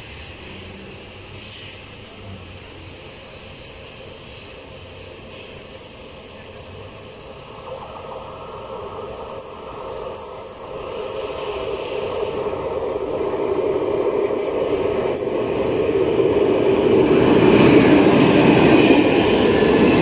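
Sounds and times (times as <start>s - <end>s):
freight train rumbling: 0.0s - 20.0s.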